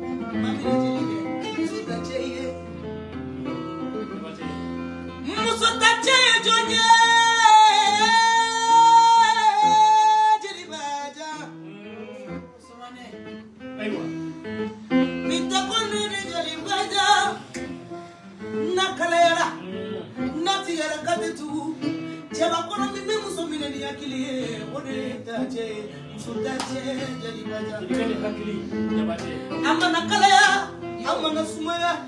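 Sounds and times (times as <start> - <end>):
woman singing: 0.0 - 2.6, 5.2 - 12.9, 15.2 - 17.6, 18.5 - 32.0
acoustic guitar picking melody: 0.0 - 32.0.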